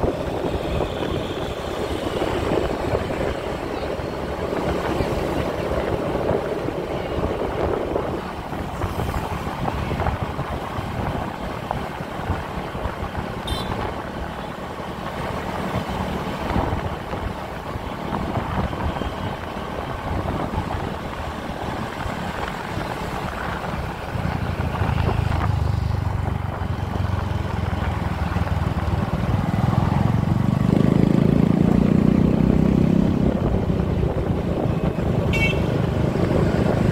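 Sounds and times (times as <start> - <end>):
street traffic: 0.0 - 36.9.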